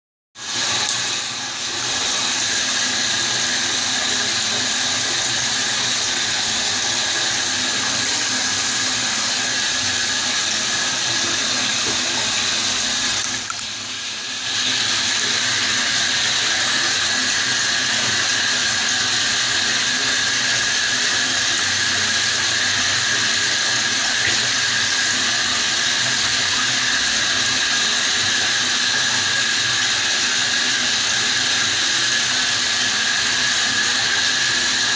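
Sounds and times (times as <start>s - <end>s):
water running with hiss: 0.4s - 34.9s.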